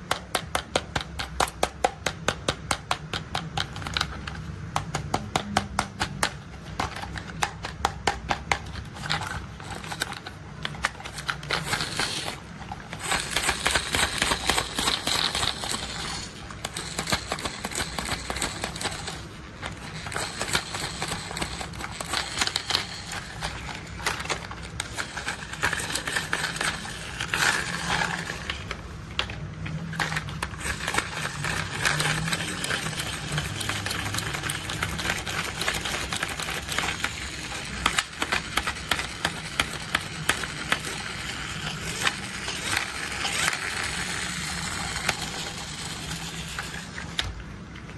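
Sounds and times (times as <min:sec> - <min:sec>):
plastic toys clicking and rattling: 0:00.0 - 0:47.9.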